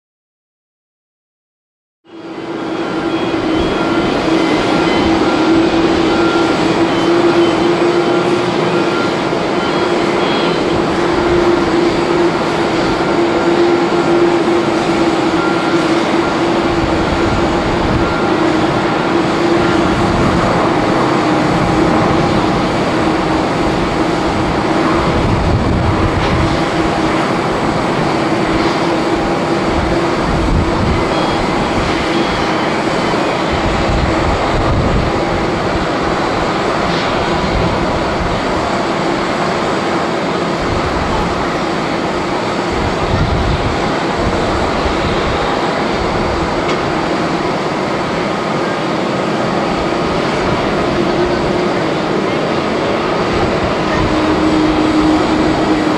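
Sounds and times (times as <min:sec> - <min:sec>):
jet engines on runway: 0:02.1 - 0:55.9.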